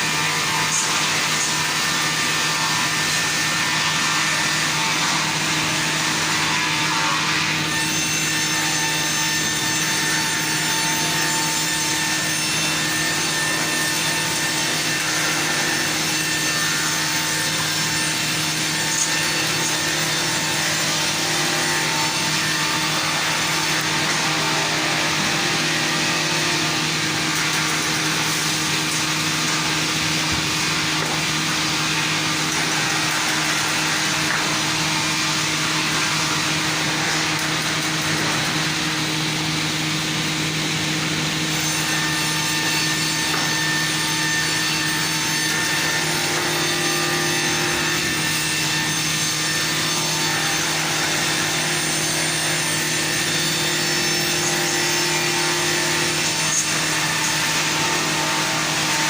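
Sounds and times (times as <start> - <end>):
saw cutting wood: 0.0 - 59.0.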